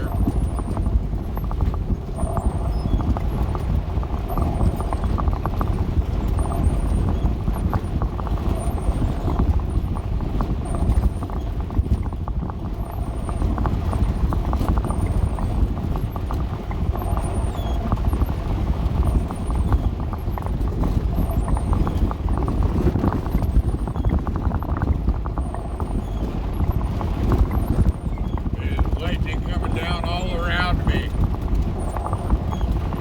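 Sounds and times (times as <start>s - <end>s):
van engine and road rumble: 0.0s - 33.0s.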